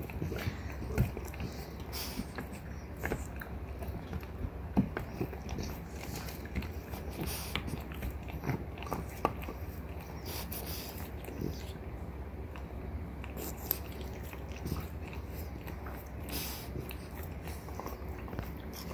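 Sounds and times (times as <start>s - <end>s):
dogs gnawing on antler: 0.0s - 18.9s.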